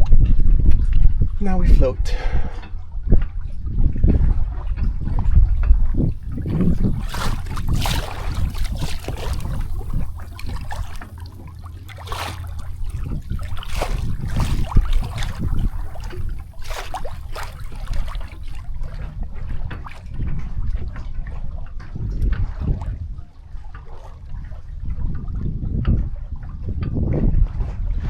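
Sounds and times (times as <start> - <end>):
wind rumble on microphone: 0.0 - 28.0
water slapping against hull: 3.9 - 27.9.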